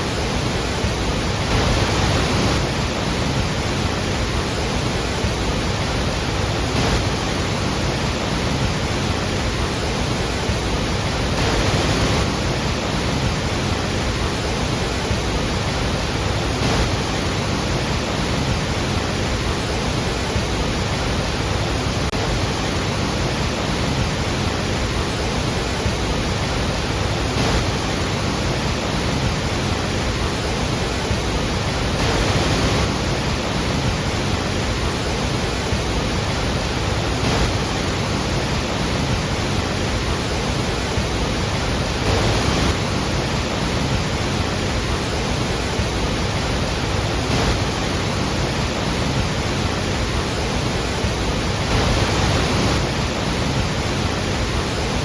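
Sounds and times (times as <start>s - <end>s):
heavily falling water rushing: 0.0s - 55.0s.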